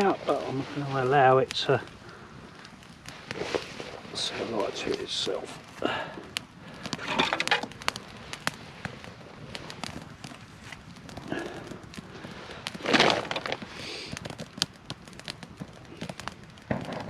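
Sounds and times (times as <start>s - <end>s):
small fire crackling and popping: 0.0s - 17.0s.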